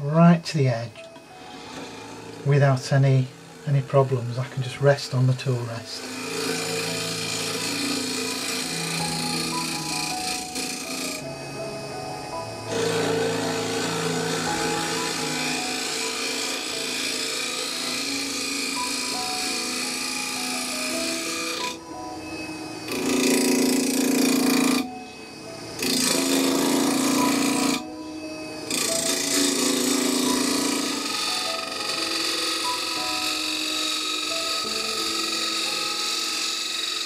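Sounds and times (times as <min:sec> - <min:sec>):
lathe tool scraping wood: 0:00.0 - 0:37.0.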